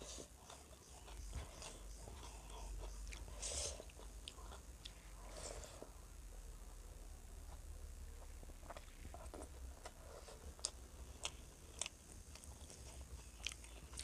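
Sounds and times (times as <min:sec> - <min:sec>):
person chewing food: 0:00.0 - 0:06.0, 0:08.2 - 0:14.0.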